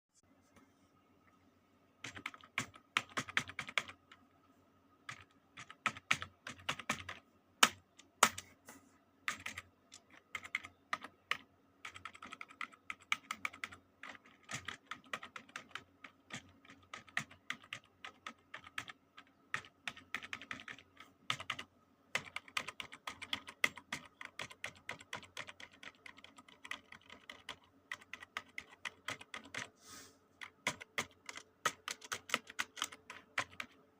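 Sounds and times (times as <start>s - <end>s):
computer keyboard typing: 2.0s - 4.2s, 5.0s - 8.5s, 9.2s - 29.7s, 30.4s - 33.9s.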